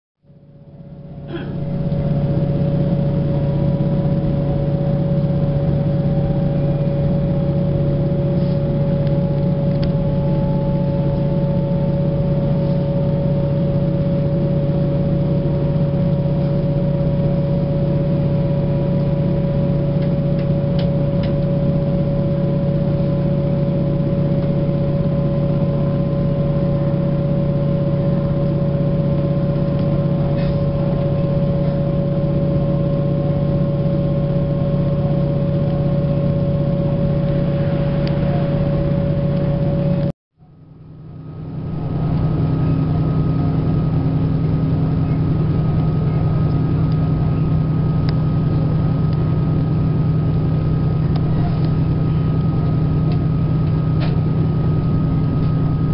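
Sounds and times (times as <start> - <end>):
train engine drone inside carriage: 0.2 - 55.9.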